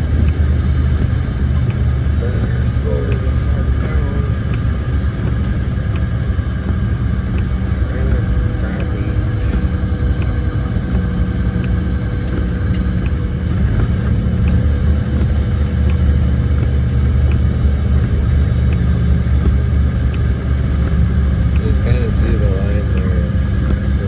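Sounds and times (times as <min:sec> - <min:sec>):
truck diesel engine rumble: 0:00.0 - 0:24.0.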